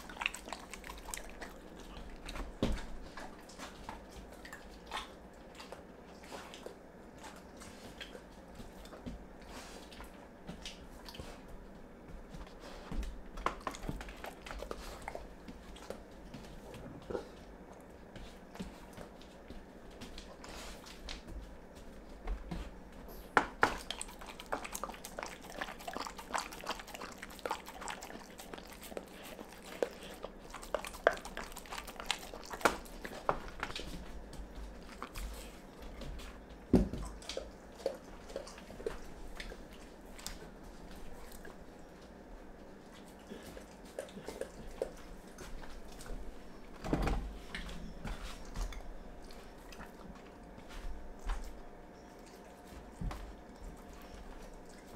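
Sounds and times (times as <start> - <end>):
dog licking and chewing: 0.0 - 54.9.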